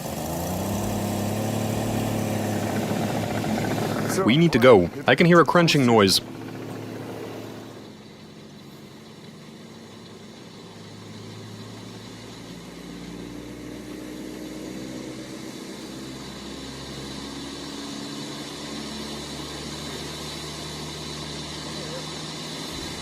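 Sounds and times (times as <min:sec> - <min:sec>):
engine at high revs spinning tire: 0:00.0 - 0:23.0.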